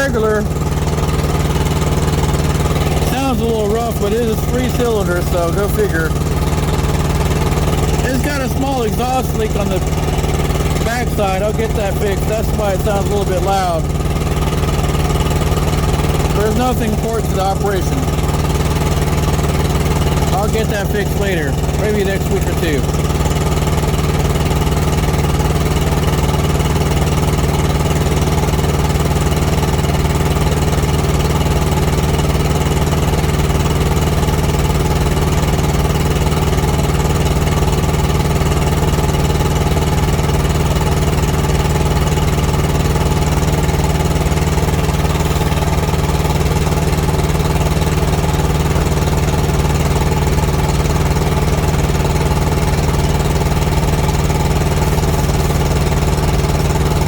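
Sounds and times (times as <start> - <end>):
diesel engine running roughly: 0.0 - 57.0.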